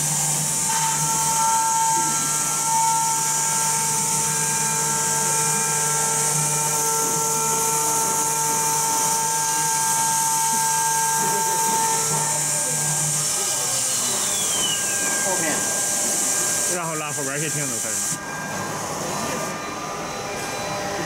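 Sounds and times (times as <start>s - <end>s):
spindle whine cutting wood: 0.0s - 21.0s.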